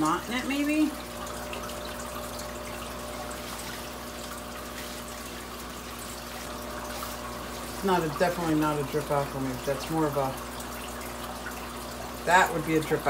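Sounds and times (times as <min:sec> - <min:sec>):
water trickling into glass: 0:00.0 - 0:13.0.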